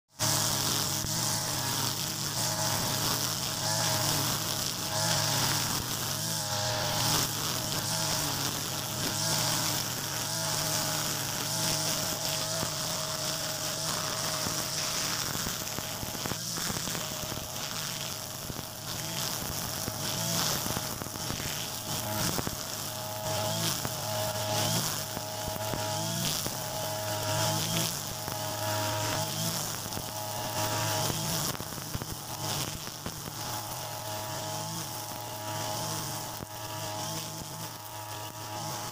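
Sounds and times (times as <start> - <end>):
brush cutter engine buzzing: 0.1 - 38.9.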